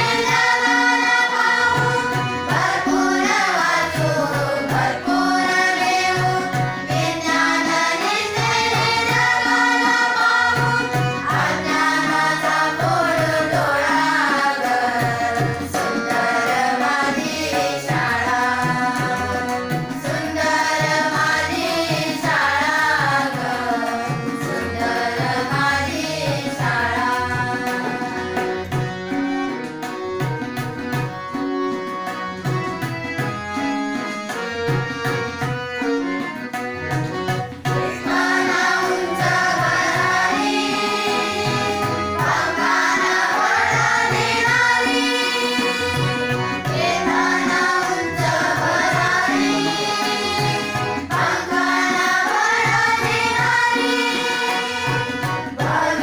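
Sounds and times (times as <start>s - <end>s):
girls singing: 0.0s - 28.3s, 37.9s - 56.0s
harmonium: 0.0s - 56.0s
tabla beat: 0.0s - 56.0s.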